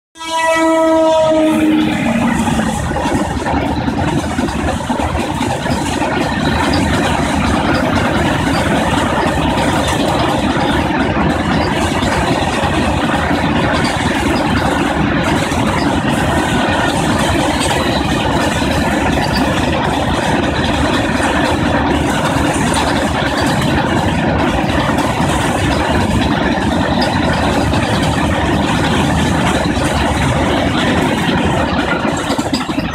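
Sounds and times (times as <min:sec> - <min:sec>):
freight train wheels on rails: 0:00.2 - 0:32.9.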